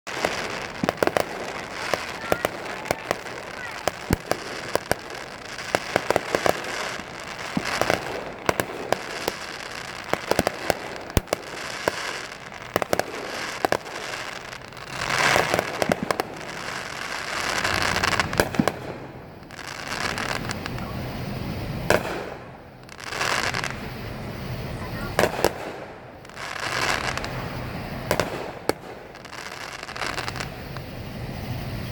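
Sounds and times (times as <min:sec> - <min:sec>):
fireworks cracking and popping: 0:00.0 - 0:31.9.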